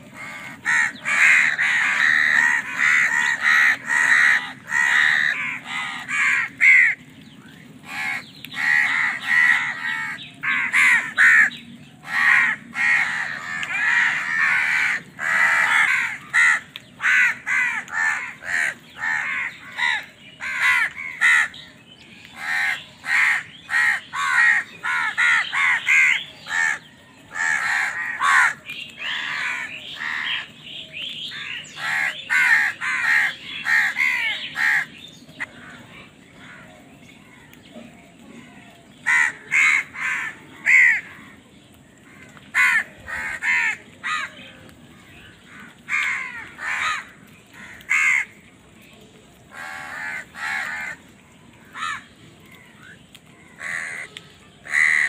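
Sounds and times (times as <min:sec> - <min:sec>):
crows cawing: 0:00.0 - 0:07.2, 0:07.8 - 0:37.6, 0:38.4 - 0:41.4, 0:42.0 - 0:44.6, 0:45.3 - 0:48.5, 0:49.5 - 0:55.0.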